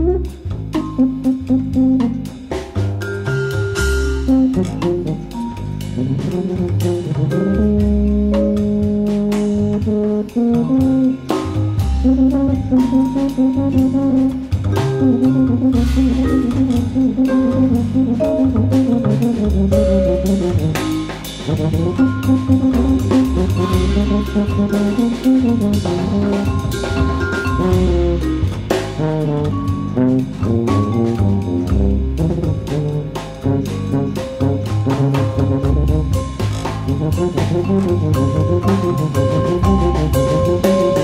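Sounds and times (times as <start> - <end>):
jazz music: 0.0 - 41.0.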